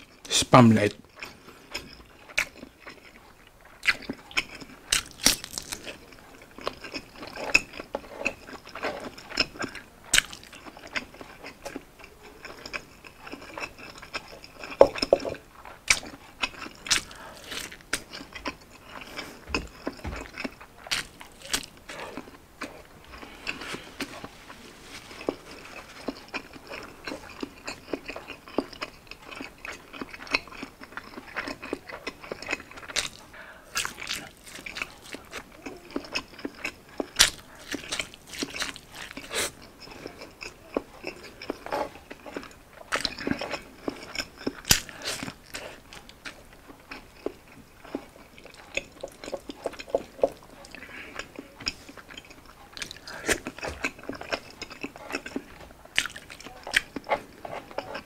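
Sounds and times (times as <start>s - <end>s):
man biting and chewing: 1.1s - 58.0s.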